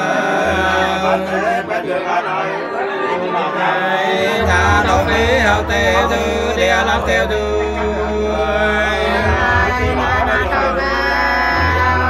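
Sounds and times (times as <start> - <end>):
low bass note: 0.0 - 1.8, 4.2 - 12.0
wavering singing voices: 0.0 - 12.0.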